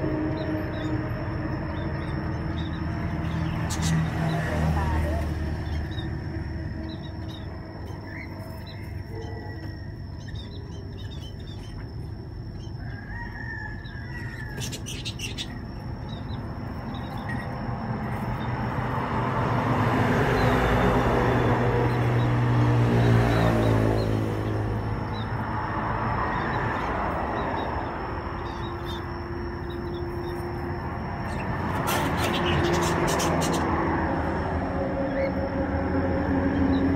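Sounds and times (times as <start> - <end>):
small birds chirping: 0.0 - 34.1, 35.0 - 36.9.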